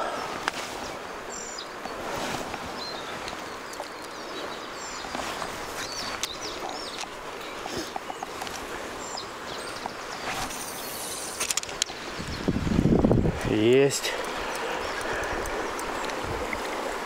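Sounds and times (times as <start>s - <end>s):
river water rushing: 0.0s - 17.0s
small birds chirping: 0.0s - 17.0s.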